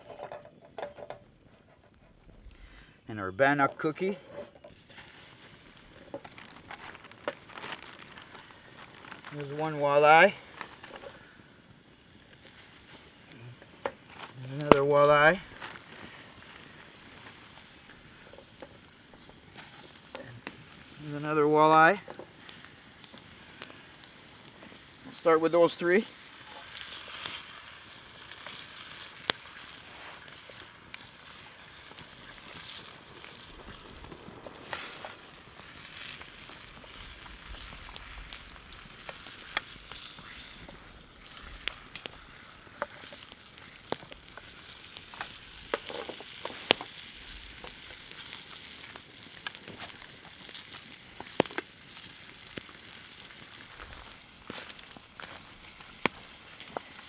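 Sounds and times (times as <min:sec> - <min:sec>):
oil popping and crackling: 0:03.8 - 0:57.0
fish frying in hot oil: 0:04.7 - 0:57.0.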